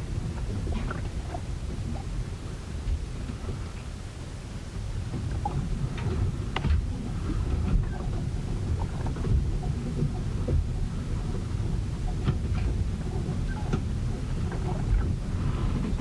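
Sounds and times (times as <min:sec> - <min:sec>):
wind and water against hull: 0:00.0 - 0:16.0.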